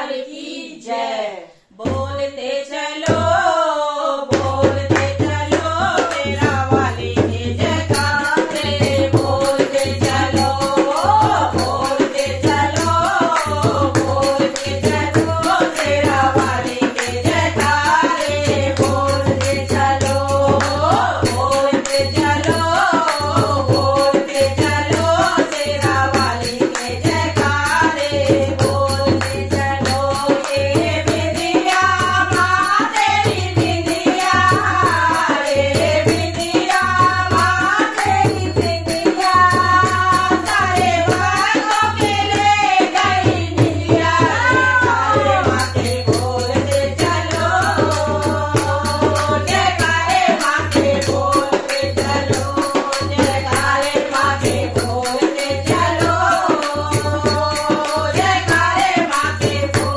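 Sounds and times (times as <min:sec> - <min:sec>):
women singing devotional song: 0:00.0 - 0:59.9
hand drum beat: 0:04.3 - 0:59.9.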